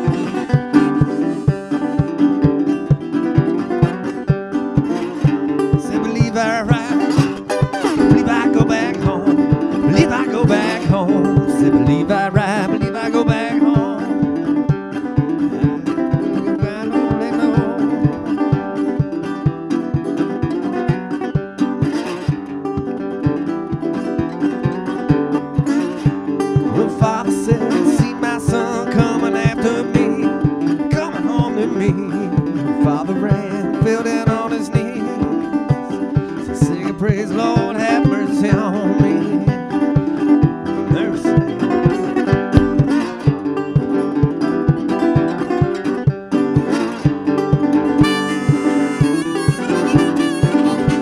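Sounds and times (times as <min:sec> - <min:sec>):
slide guitar blues: 0:00.0 - 0:51.0.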